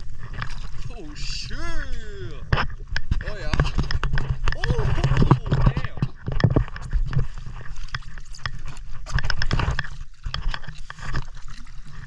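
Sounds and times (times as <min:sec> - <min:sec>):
footsteps on rock: 0:00.0 - 0:11.5
water sloshing: 0:00.0 - 0:12.0.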